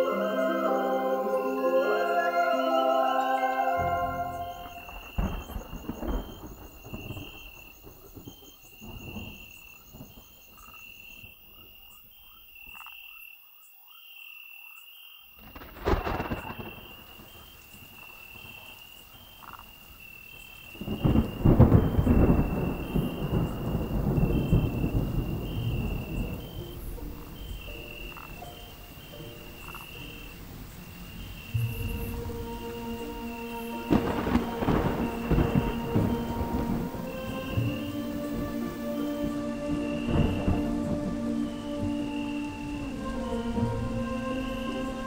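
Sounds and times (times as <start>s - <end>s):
rain falling: 0.0s - 12.8s, 15.4s - 45.0s
frog calling: 0.0s - 15.3s, 16.2s - 45.0s
thunder crack: 3.8s - 11.7s, 15.4s - 19.6s, 20.3s - 45.0s
rumble of thunder: 3.9s - 12.0s, 15.4s - 45.0s.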